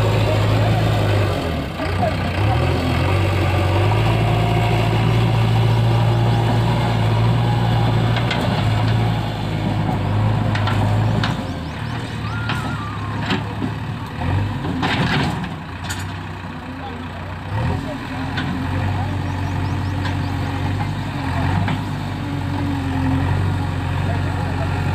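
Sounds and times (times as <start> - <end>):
diesel engine droning: 0.0 - 24.9.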